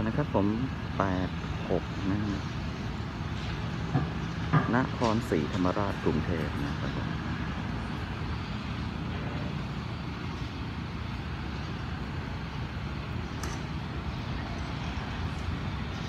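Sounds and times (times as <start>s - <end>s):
diesel locomotive rumbling: 0.0s - 16.0s.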